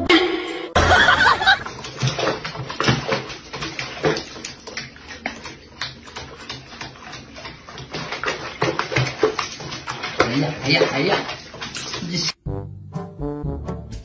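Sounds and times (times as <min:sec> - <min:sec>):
water splashing in sink: 0:00.8 - 0:12.4.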